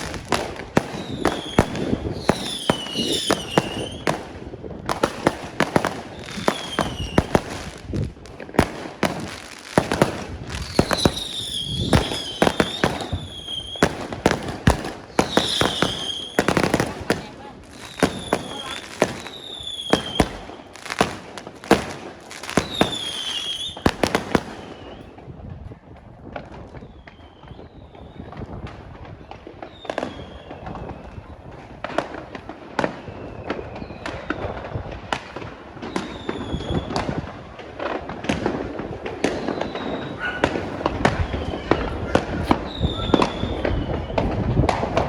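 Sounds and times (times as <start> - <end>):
falling firework whistles: 0.0 - 4.3, 5.0 - 8.0, 8.6 - 25.2, 26.7 - 28.7, 29.6 - 31.4, 32.8 - 34.7, 35.4 - 37.3, 39.2 - 45.0
fireworks bangs and pops: 0.0 - 45.0.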